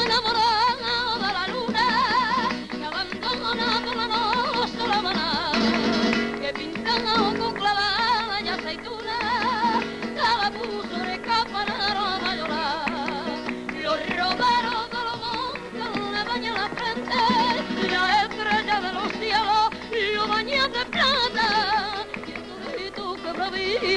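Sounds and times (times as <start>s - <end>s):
plucked guitar: 0.0s - 23.9s.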